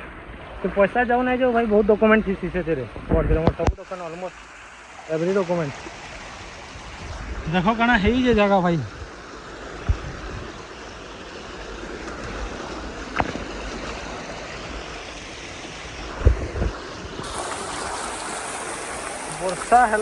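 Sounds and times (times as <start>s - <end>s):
waterfall stream rushing: 3.8s - 20.0s.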